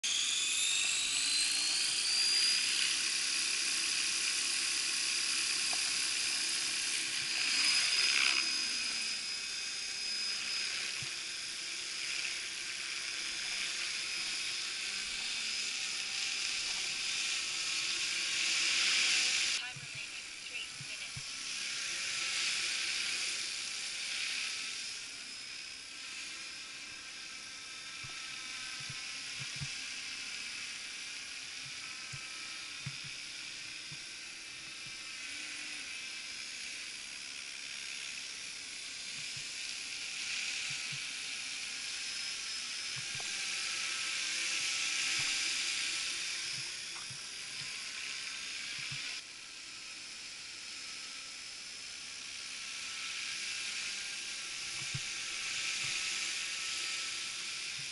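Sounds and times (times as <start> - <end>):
rc helicopter whine: 0.0 - 57.9.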